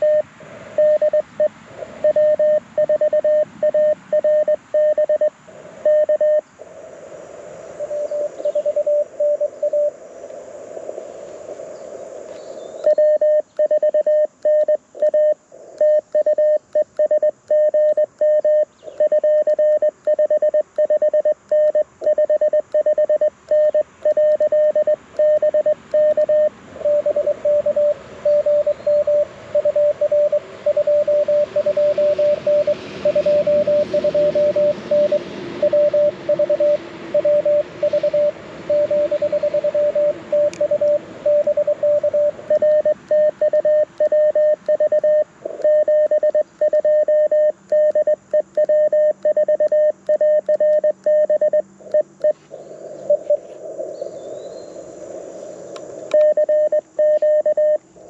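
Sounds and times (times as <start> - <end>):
morse code tones: 0.0 - 6.4, 7.8 - 9.9, 12.8 - 52.4, 56.1 - 57.8
radio band noise hiss: 0.0 - 50.1, 50.9 - 58.0.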